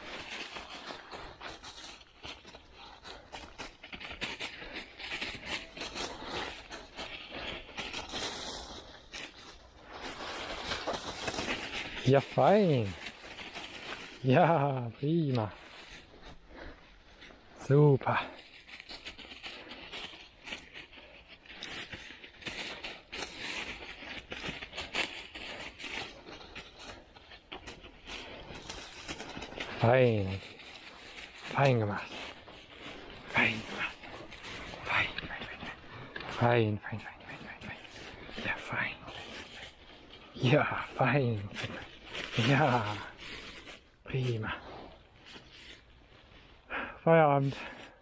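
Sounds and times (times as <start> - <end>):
footsteps rustling dry leaves: 0.0 - 48.0.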